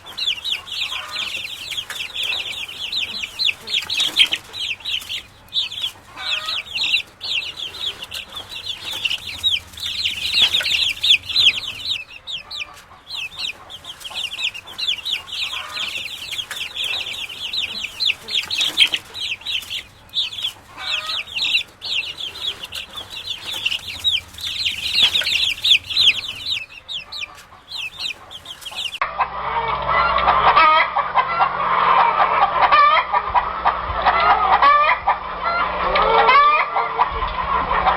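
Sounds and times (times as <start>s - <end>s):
chicks peeping: 0.0s - 37.9s
hens clucking: 0.0s - 37.9s.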